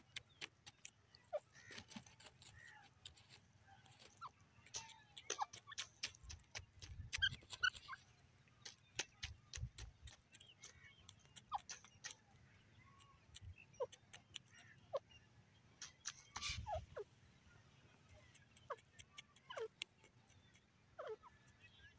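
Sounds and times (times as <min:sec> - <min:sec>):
bird scratching and pecking soil: 0:00.0 - 0:14.8, 0:15.8 - 0:16.8, 0:18.0 - 0:21.3.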